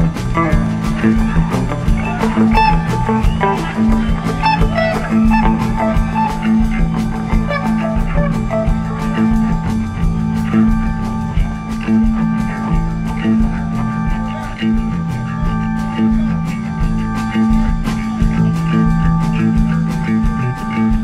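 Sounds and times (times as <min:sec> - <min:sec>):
drum beat: 0:00.0 - 0:21.0
electric guitar lead line: 0:00.0 - 0:21.0
keyboard notes: 0:00.0 - 0:21.0
low bass: 0:00.0 - 0:21.0.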